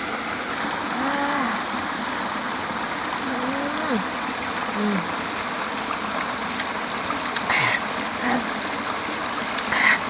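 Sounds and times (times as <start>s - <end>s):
rocky stream rushing: 0.0s - 10.0s.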